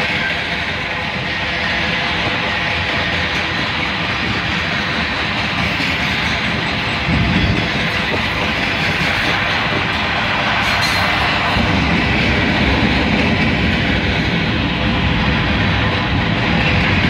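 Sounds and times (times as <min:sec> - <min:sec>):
steel wheels running on rails: 0:00.0 - 0:17.0.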